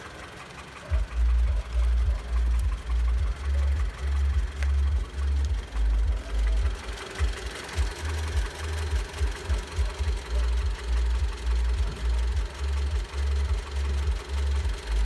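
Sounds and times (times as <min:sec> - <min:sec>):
engine knocking: 0:00.0 - 0:15.0
uneven low engine rumble: 0:00.0 - 0:15.0.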